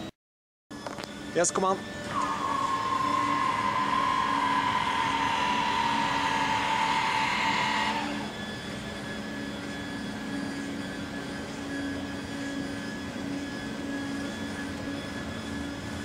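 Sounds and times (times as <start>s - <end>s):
electric lift motor whining: 0.7s - 16.0s.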